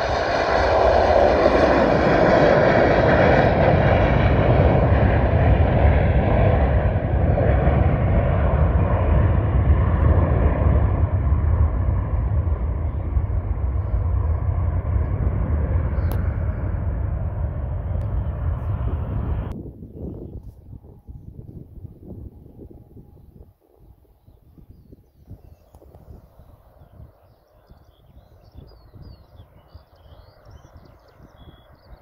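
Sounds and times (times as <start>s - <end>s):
jet airliner taking off: 0.0s - 32.0s.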